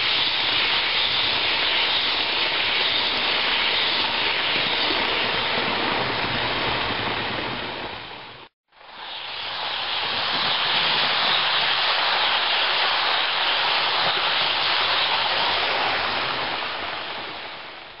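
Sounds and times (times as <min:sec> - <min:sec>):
model train wheels rushing on rails: 0:00.0 - 0:18.0.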